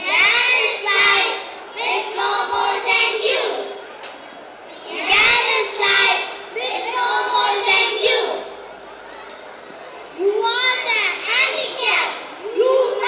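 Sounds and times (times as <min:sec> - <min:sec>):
children reciting in unison: 0:00.0 - 0:03.8, 0:04.7 - 0:08.7, 0:10.2 - 0:13.0.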